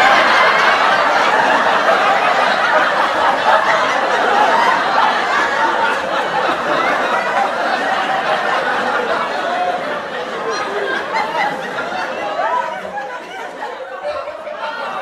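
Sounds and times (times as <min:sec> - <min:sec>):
studio audience laughing: 0:00.0 - 0:15.0.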